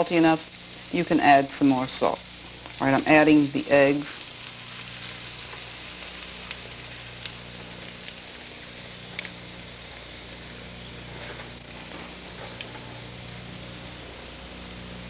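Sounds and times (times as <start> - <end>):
eggs sizzling in a skillet: 0.0 - 15.0.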